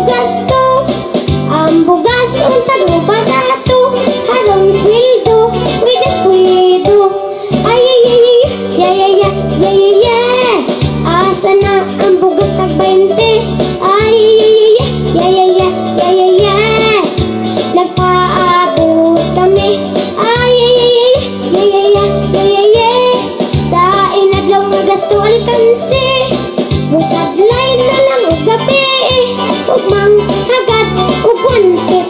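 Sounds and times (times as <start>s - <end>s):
boy singing into microphone: 0.0s - 26.3s, 26.9s - 32.0s
backing music: 0.0s - 32.0s.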